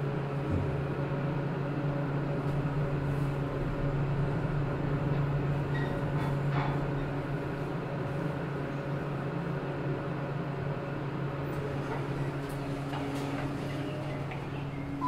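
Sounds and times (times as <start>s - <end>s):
elevator mechanical hum: 0.0s - 15.0s.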